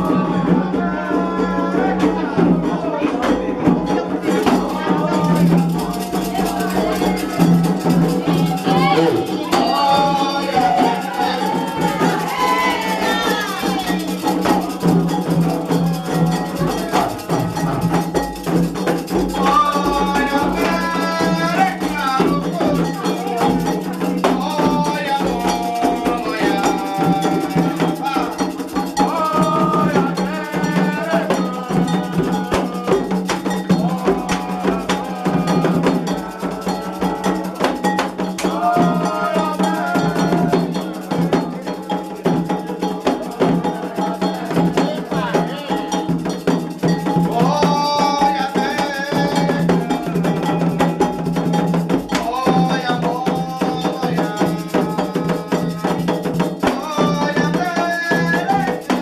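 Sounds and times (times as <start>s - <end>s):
agogo bell struck in rhythm: 0.0s - 59.0s
hand drums: 0.0s - 59.0s
voices singing: 0.0s - 59.0s.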